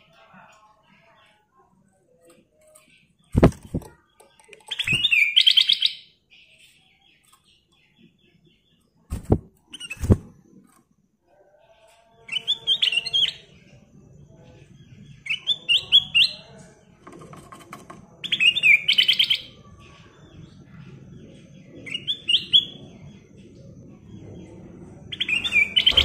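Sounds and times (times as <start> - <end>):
bird singing: 0.0 - 17.1, 18.1 - 26.0.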